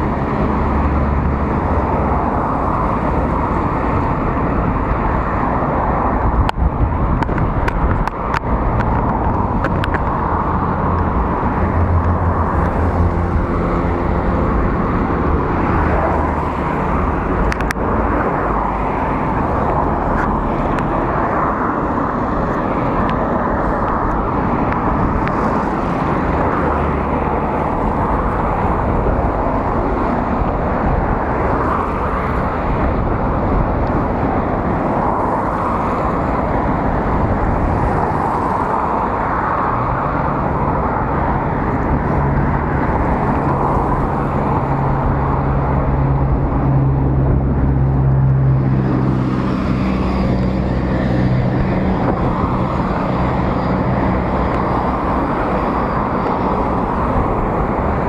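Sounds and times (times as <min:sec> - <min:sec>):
passing road traffic: 0:00.0 - 0:58.0.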